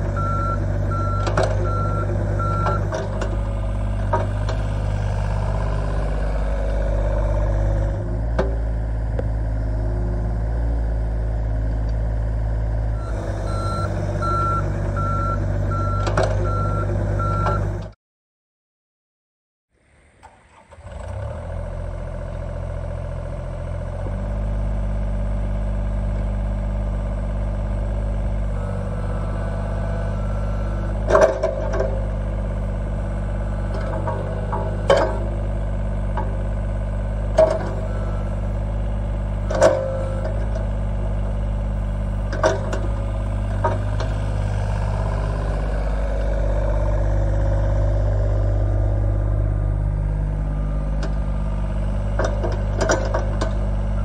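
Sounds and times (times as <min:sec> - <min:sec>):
excavator diesel engine running: 0:00.0 - 0:18.0, 0:19.9 - 0:54.0.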